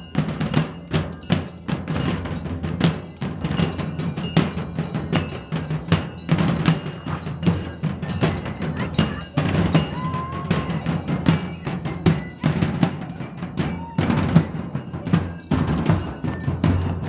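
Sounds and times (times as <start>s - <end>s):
drum ensemble playing: 0.0s - 17.0s
heavy drum strikes: 0.0s - 17.0s.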